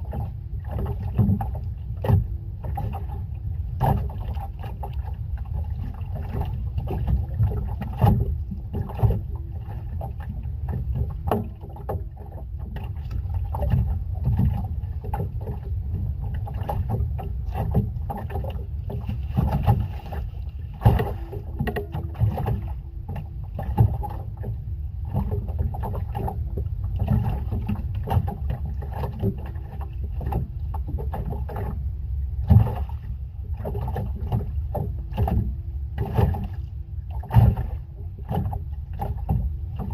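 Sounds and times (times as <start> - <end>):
boat engine low rumble: 0.0 - 39.9
faint steady hum: 0.0 - 39.9
knocks and splashes: 0.0 - 39.9.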